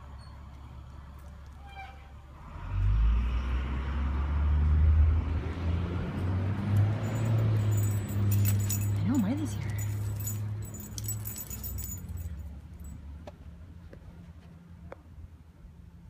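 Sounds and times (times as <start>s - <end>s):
road noise: 0.0s - 16.0s
vehicle engine rumbling: 0.0s - 16.0s.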